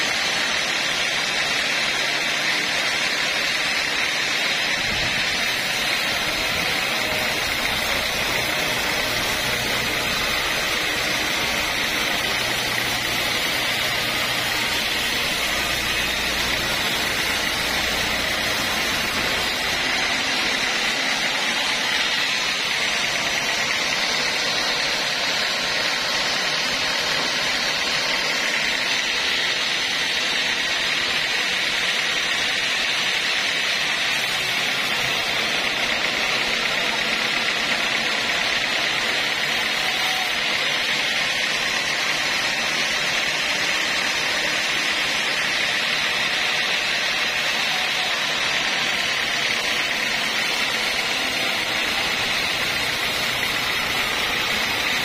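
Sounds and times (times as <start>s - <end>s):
band sawmill sawing log: 0.0s - 55.0s.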